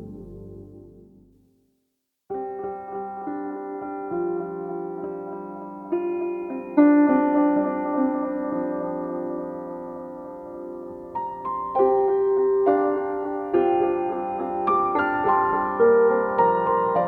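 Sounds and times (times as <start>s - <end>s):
soft slow piano music: 0.0s - 1.6s, 2.3s - 17.0s.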